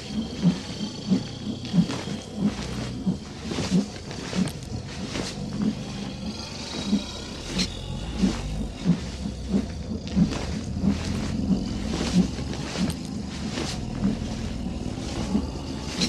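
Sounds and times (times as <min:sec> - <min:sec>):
heavy wingbeats: 0:00.0 - 0:16.0
rushing wind rumble: 0:00.0 - 0:16.0.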